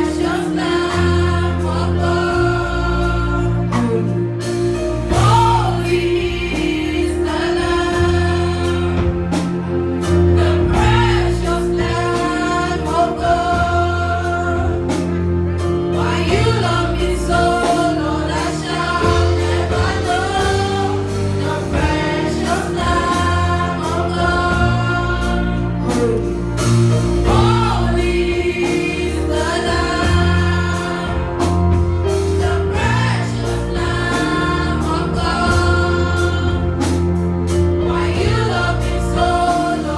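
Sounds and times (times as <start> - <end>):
group singing gospel song: 0.0 - 39.9
instrumental backing with bass: 0.0 - 39.9.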